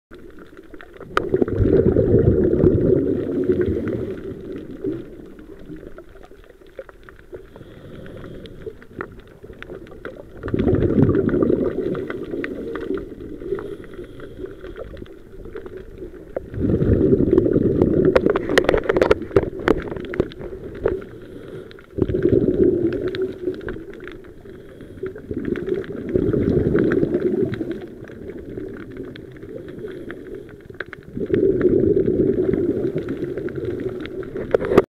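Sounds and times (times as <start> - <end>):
quiet hiss: 0.1 - 34.8
underwater exhaled bubbles rumbling: 0.1 - 34.9.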